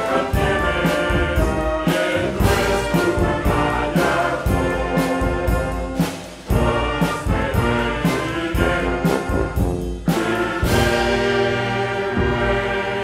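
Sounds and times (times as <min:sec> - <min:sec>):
brass band with drums: 0:00.0 - 0:13.0.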